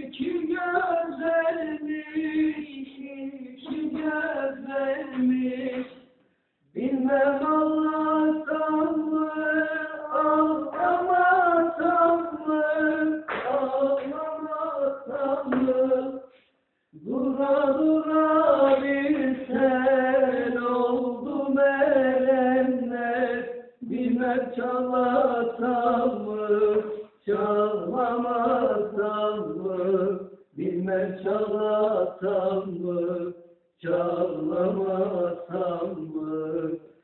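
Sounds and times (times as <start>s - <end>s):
man singing unaccompanied: 0.0s - 16.4s, 17.0s - 37.0s.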